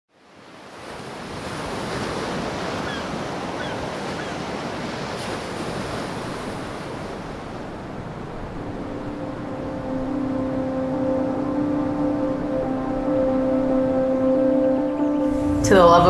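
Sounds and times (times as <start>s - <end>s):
ocean waves washing in: 0.1s - 16.0s.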